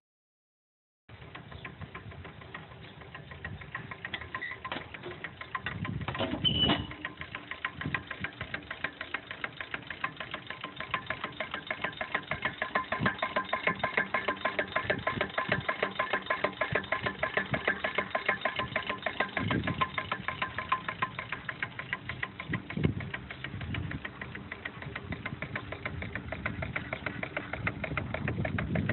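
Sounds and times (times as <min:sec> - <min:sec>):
steam engine running: 0:01.1 - 0:28.9.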